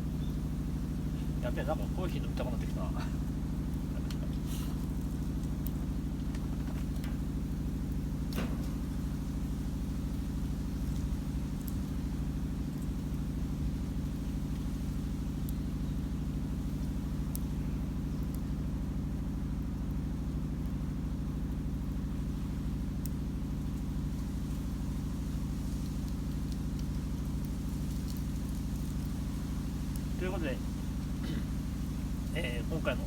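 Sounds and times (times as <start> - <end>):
low mechanical drone: 0.0 - 33.0
wood fire crackling: 0.0 - 33.0.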